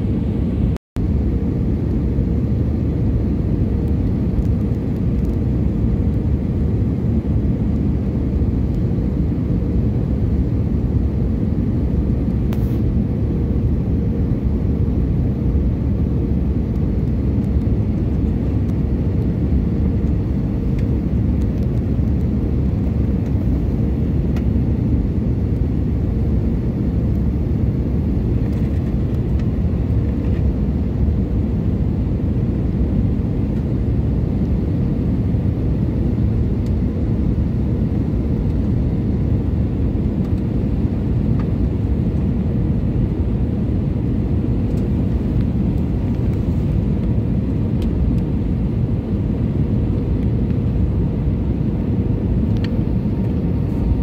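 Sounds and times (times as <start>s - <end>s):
jet engines and airflow rumble: 0.0s - 54.0s.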